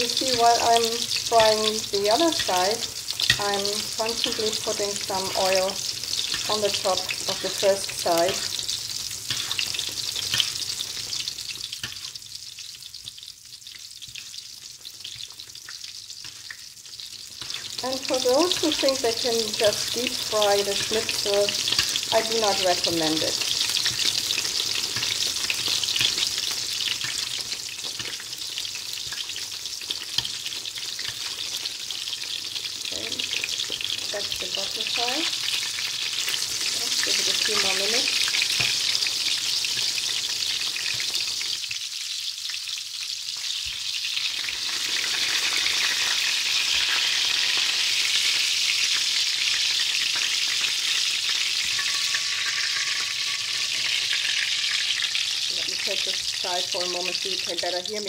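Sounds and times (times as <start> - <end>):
schnitzel sizzling in oil: 0.0 - 58.0.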